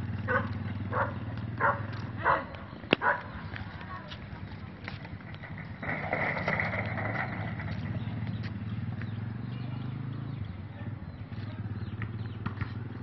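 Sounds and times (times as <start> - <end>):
goat herd milling about: 0.0 - 12.9.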